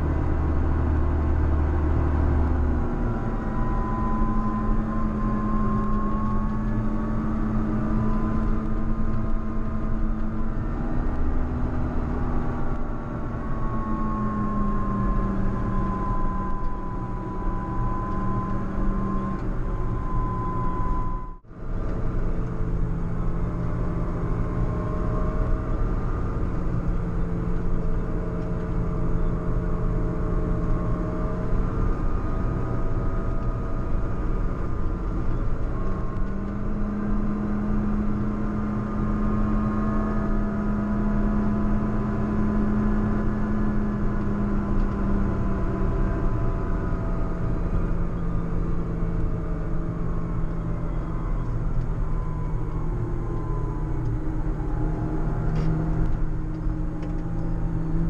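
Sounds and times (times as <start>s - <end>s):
dense low rumble: 0.0s - 58.0s
tractor diesel engine under load: 0.0s - 58.0s.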